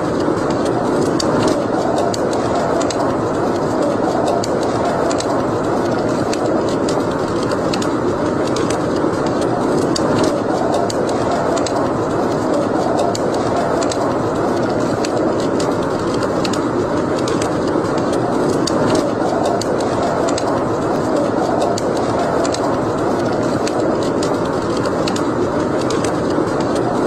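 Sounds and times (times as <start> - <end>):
fire crackling and popping: 0.0 - 27.0
rush of flames: 0.0 - 27.0.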